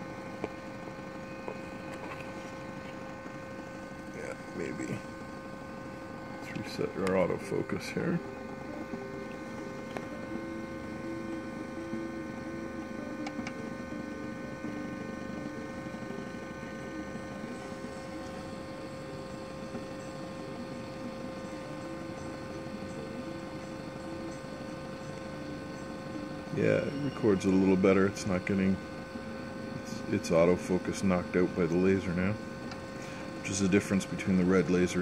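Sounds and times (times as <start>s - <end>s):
cooling fan: 0.0s - 35.0s
laser cutter motors humming: 0.0s - 35.0s.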